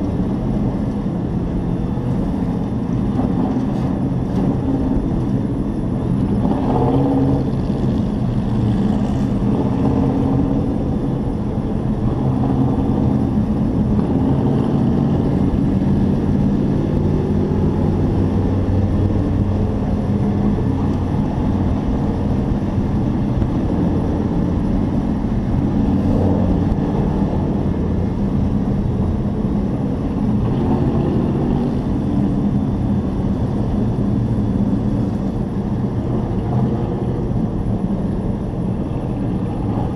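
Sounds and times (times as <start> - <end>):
race truck engine running hard: 0.0 - 39.9.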